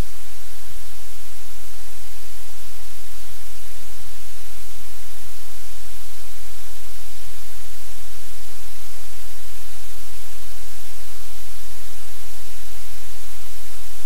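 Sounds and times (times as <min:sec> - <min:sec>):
steady loud hiss: 0:00.0 - 0:14.0.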